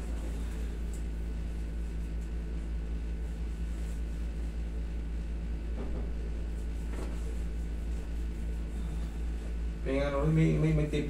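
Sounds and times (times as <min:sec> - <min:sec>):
air conditioner hum and hiss: 0:00.0 - 0:11.0.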